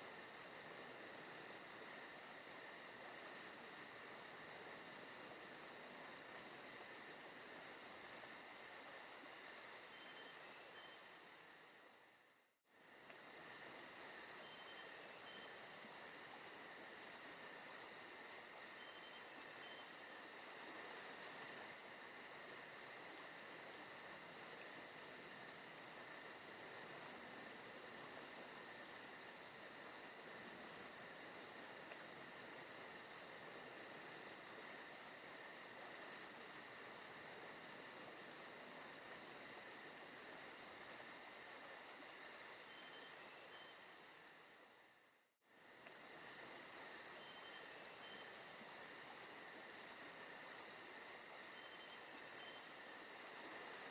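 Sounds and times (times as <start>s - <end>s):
crickets and insects chirping: 0.0s - 53.9s.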